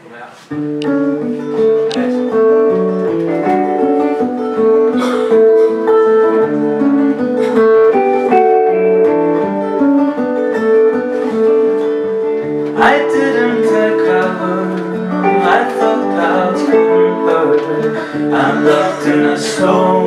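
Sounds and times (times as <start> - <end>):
acoustic guitar playing: 0.4 - 20.0.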